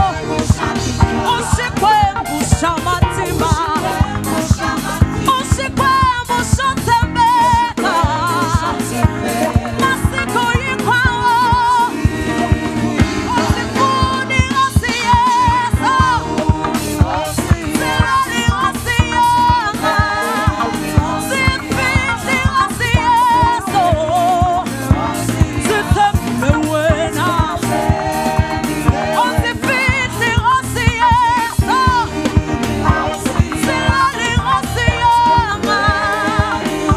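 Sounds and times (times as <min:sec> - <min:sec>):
bass guitar: 0:00.0 - 0:36.9
drum kit beat: 0:00.0 - 0:36.9
gospel vocal group singing: 0:00.0 - 0:36.9.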